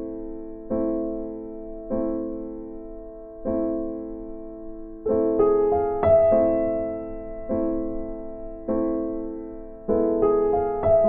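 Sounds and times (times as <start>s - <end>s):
slow electric piano chords: 0.0s - 11.0s.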